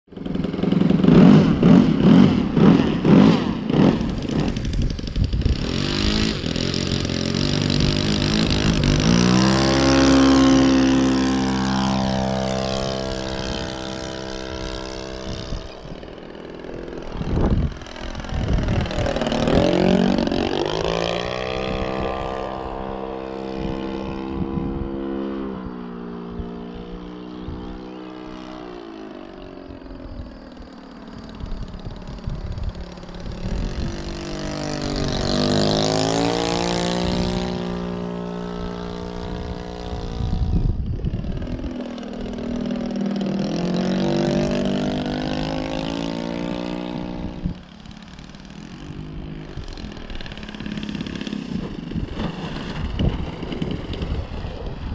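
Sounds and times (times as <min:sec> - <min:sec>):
model plane engine droning: 0:00.1 - 0:54.9.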